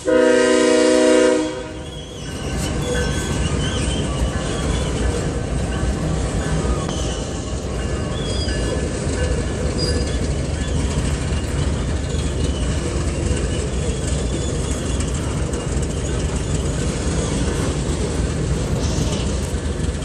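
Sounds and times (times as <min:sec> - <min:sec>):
train wheels rumbling on rails: 0:00.0 - 0:20.0
wheel squeals: 0:01.7 - 0:20.0.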